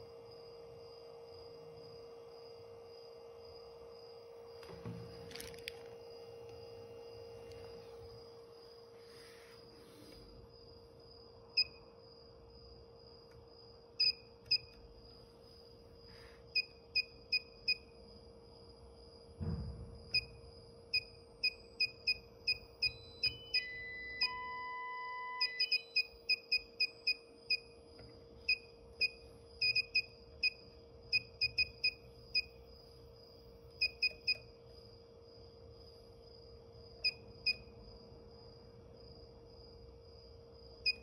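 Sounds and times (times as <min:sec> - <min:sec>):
steady electronic hum: 0:00.0 - 0:41.0.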